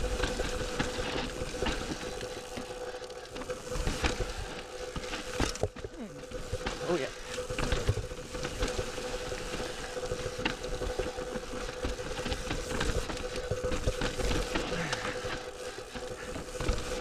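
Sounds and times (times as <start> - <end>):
bike clicks and rattles: 0.0 - 17.0
bike tyres rolling over dirt and rock: 0.0 - 17.0
faint steady whine: 0.0 - 17.0.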